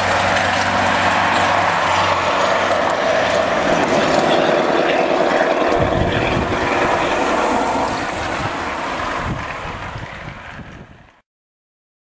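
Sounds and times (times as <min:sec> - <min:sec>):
truck diesel engine running: 0:00.0 - 0:11.1.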